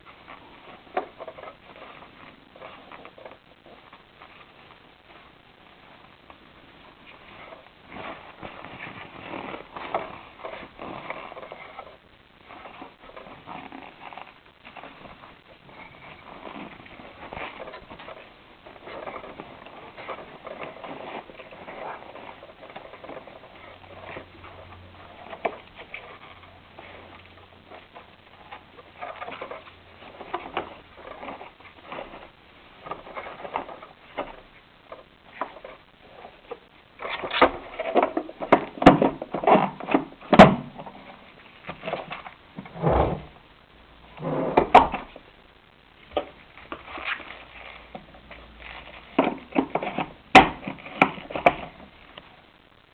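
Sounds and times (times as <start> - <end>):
plastic rustling and clicks: 0.0 - 42.7, 46.0 - 52.6.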